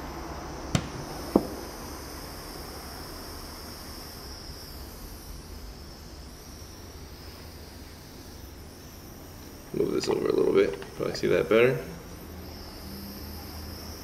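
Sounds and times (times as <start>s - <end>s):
soldering iron gas hiss: 0.0s - 14.0s.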